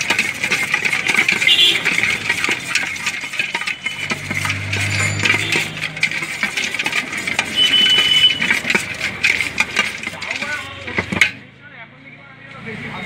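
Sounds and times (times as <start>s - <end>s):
steel bowl clattering: 0.0s - 11.4s.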